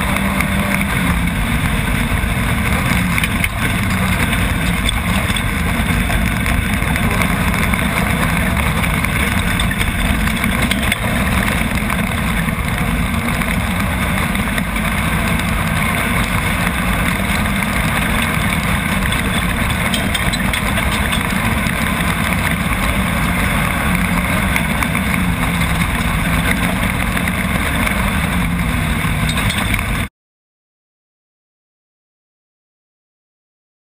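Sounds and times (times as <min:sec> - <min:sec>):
constant rush of noise: 0:00.0 - 0:30.1
racing buggy engine running: 0:00.0 - 0:30.1.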